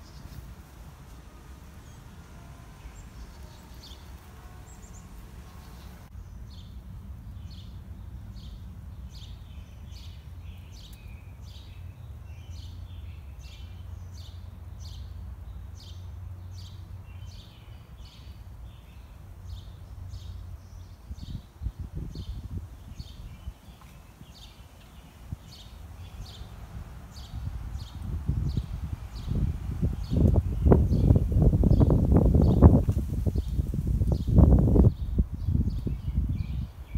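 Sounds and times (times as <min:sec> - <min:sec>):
songbird chirping: 0:00.0 - 0:36.9.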